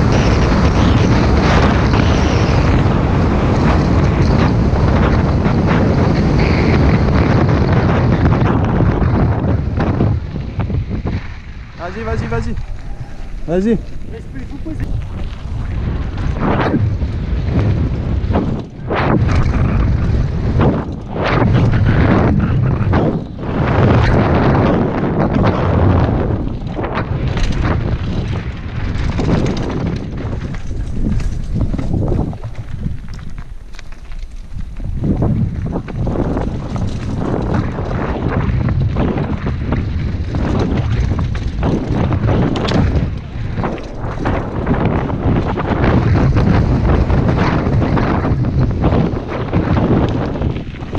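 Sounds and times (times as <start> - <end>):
bike tyres on gravel track: 0.0 - 50.9
wind buffeting microphone: 0.0 - 50.9.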